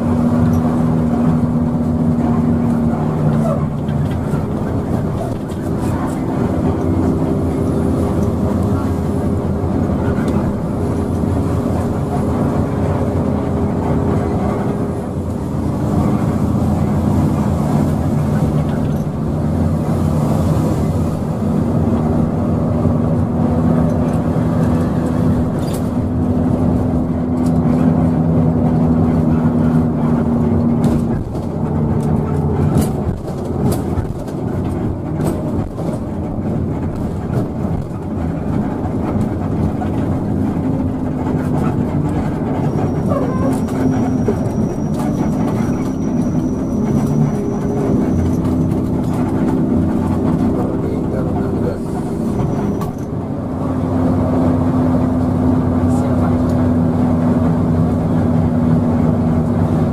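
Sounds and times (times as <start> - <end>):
bus diesel engine drone: 0.0 - 59.9
road noise: 0.0 - 59.9.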